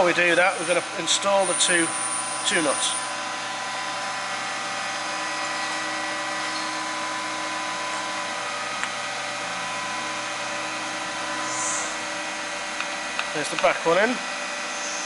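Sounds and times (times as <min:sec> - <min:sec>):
machinery hum with whining tones: 0:00.0 - 0:15.0.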